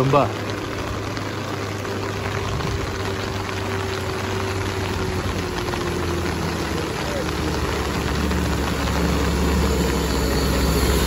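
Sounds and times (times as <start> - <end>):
bus diesel engine climbing: 0.0 - 11.0
rain hiss: 0.0 - 11.0.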